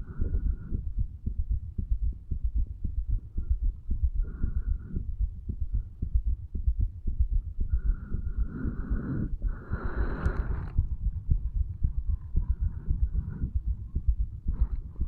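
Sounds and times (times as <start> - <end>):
heartbeat thuds: 0.0 - 15.0.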